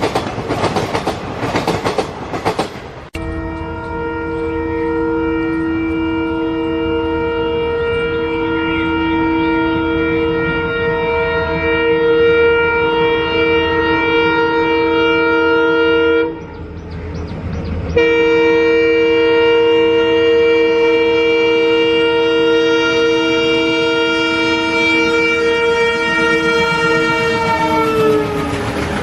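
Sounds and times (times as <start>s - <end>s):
low rumble of running train: 0.0s - 29.0s
train horn two-note chord: 3.2s - 16.7s, 18.0s - 28.7s.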